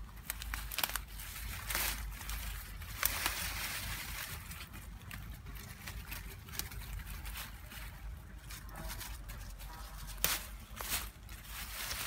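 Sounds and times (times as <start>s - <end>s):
leaves and twigs rustling: 0.0s - 12.0s
twigs snapping: 0.1s - 12.0s.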